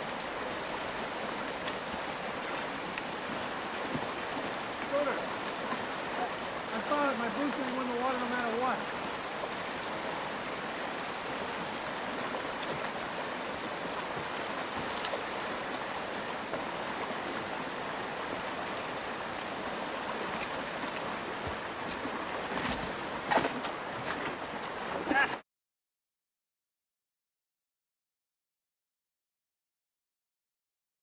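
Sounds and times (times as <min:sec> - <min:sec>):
river water rushing: 0:00.0 - 0:25.4
water splashes: 0:00.0 - 0:25.4.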